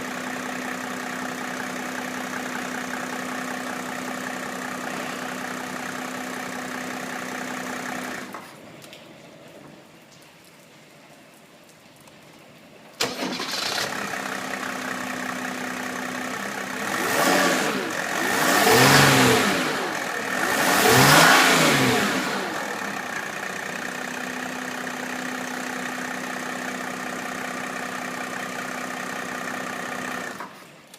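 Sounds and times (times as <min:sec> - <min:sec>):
diesel engine idling and revving: 0:00.0 - 0:08.4, 0:13.0 - 0:30.6.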